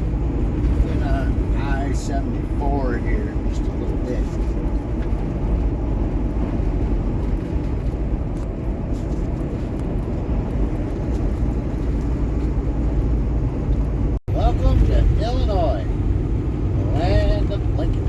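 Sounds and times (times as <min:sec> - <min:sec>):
road noise: 0:00.0 - 0:18.0
truck engine rumble: 0:00.0 - 0:18.0.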